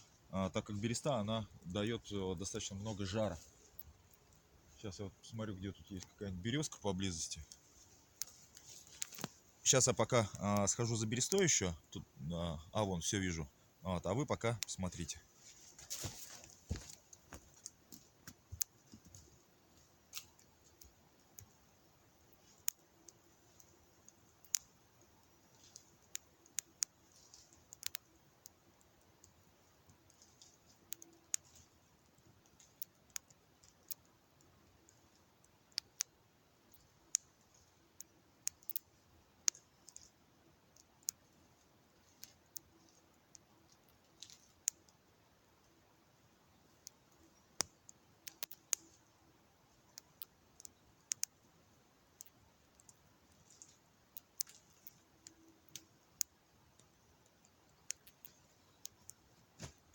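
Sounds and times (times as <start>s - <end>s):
campfire crackling and popping: 0.0s - 15.2s, 15.8s - 59.9s.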